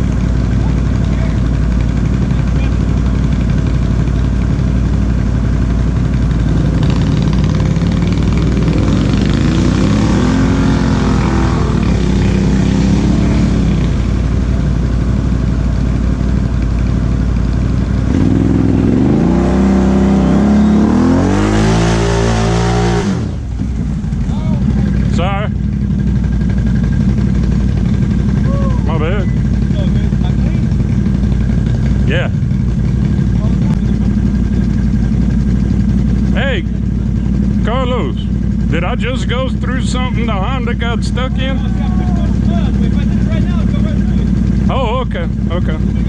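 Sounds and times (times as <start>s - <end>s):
atv engine revving: 0.0s - 46.0s.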